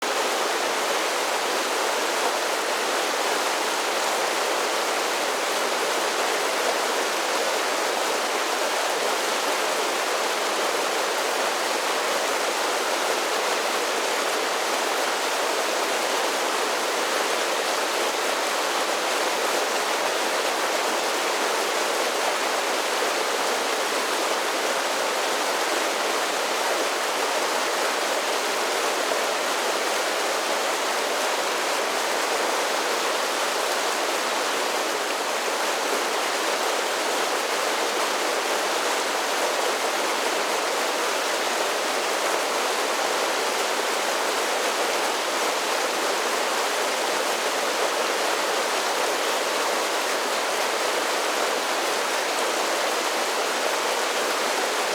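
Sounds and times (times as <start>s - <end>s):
creek cascading over small waterfalls: 0.0s - 54.9s.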